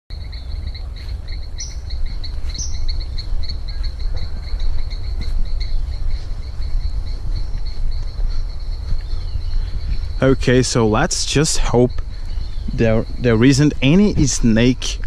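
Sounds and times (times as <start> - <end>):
insects chirping: 0.1 - 15.0
low microphone rumble: 0.1 - 15.0.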